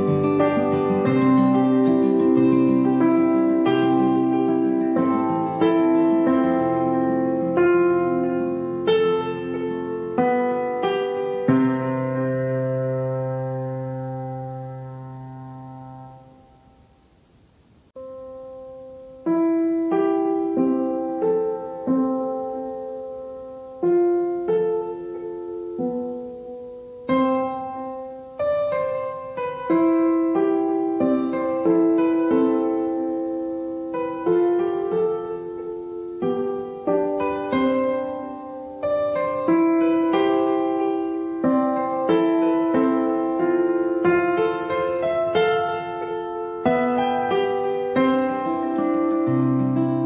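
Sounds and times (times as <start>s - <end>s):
gentle piano melody: 0.0s - 17.0s, 17.9s - 50.0s.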